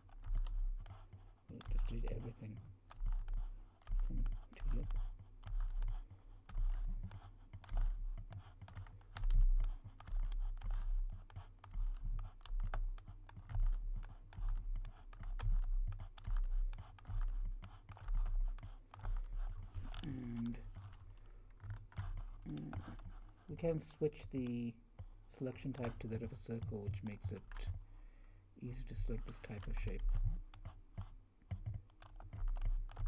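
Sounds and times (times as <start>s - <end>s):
keyboard and mouse clicking: 0.0s - 27.8s, 28.6s - 33.0s.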